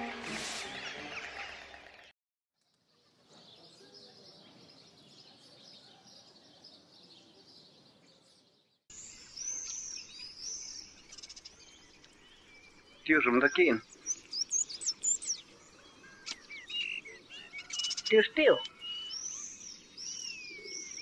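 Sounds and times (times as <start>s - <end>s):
birds chirping and calling: 2.9s - 21.0s.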